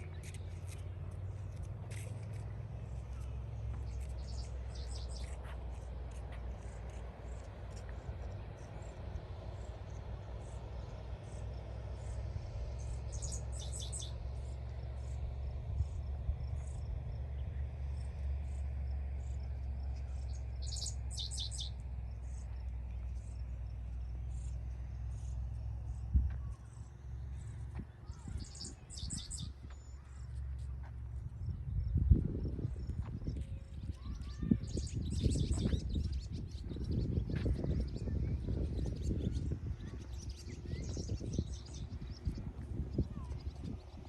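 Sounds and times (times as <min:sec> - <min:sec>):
steady low rumble: 0:00.0 - 0:44.0.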